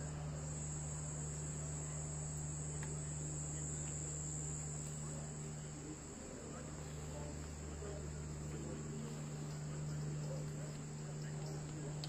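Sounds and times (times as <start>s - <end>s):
crickets chirring: 0.0s - 12.0s
low steady hum: 0.0s - 12.0s.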